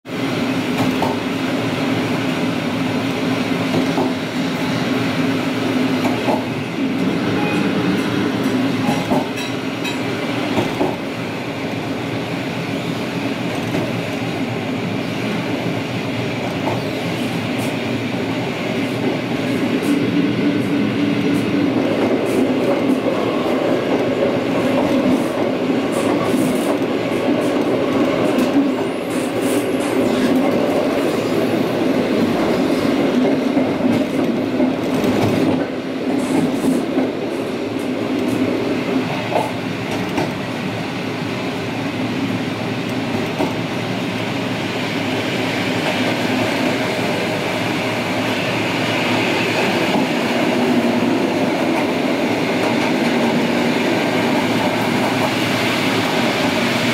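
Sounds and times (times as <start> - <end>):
electric train running on rails: 0.1 - 56.9.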